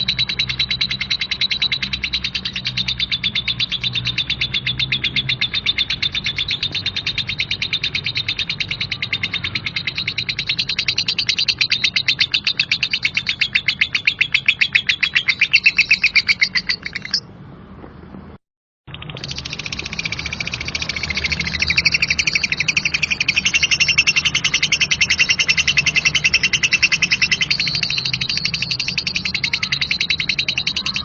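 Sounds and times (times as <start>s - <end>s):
lovebird chattering: 0.0s - 17.3s, 18.9s - 31.0s.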